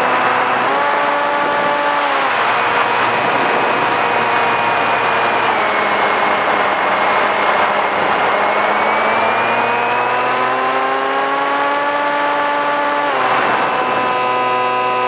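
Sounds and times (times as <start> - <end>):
wind rush: 0.0 - 10.6, 12.8 - 14.8
electric motor and propeller whining: 0.0 - 15.0.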